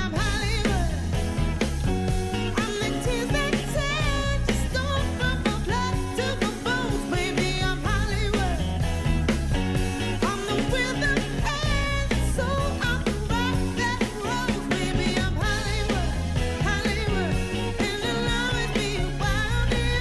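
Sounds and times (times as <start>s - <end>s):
person singing: 0.0s - 1.3s, 2.4s - 8.9s, 10.0s - 20.0s
bass: 0.0s - 20.0s
steady drum beat: 0.0s - 20.0s.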